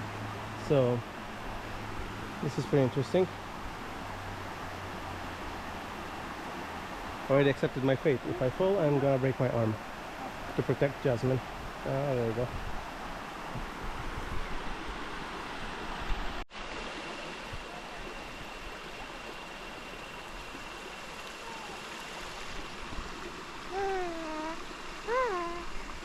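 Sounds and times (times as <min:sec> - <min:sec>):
stream and waterfall rushing: 0:00.0 - 0:26.0.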